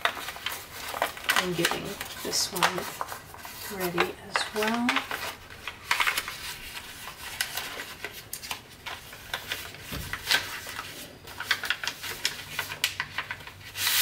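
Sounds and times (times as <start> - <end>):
paper crackling and rustling: 0.0 - 14.0.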